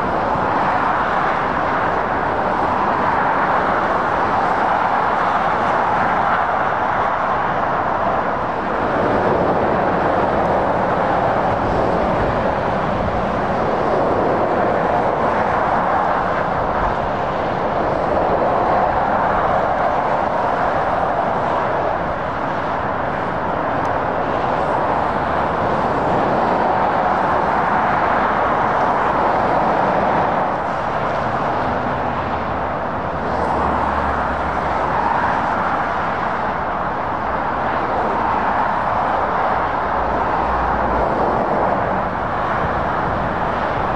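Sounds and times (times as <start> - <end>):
motorway traffic tyre noise: 0.0 - 43.9.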